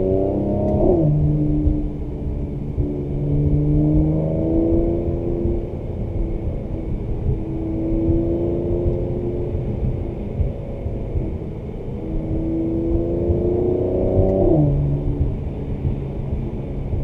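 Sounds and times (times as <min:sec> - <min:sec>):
car engine accelerating: 0:00.0 - 0:17.0
road rumble: 0:00.0 - 0:17.0.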